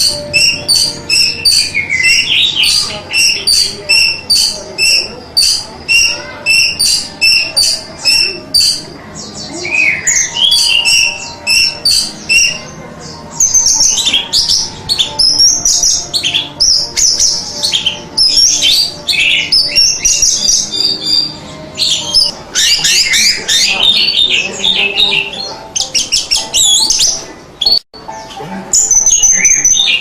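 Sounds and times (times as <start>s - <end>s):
thrush singing: 0.0s - 30.0s.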